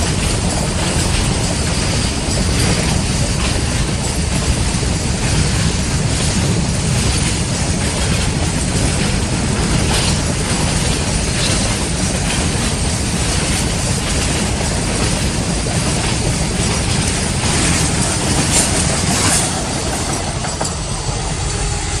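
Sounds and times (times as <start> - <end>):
sharp wheel clacks: 0.0 - 21.0
train wheels rumbling on rails: 0.0 - 22.0.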